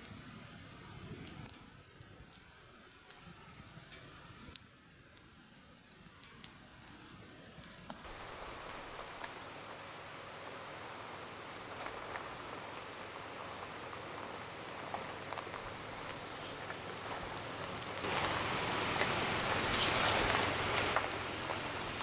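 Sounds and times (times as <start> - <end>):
rain falling steadily: 0.0 - 22.0.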